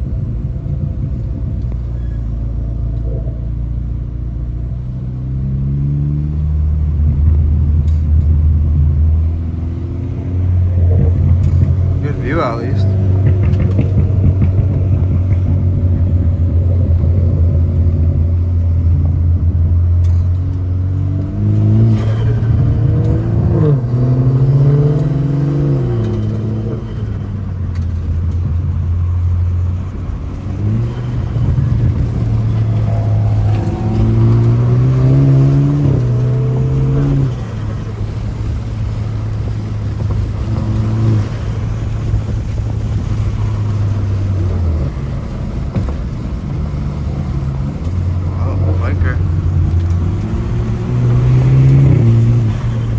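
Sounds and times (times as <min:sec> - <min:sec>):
turbocharged car engine revving: 0:00.0 - 0:52.9.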